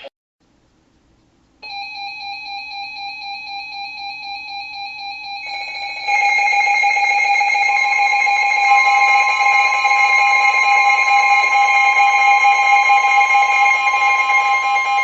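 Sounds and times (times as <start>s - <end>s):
louder alarm layer: 1.6s - 15.0s
pulsing electronic alarm tone: 1.6s - 15.0s
steady high warning tone: 1.6s - 15.0s.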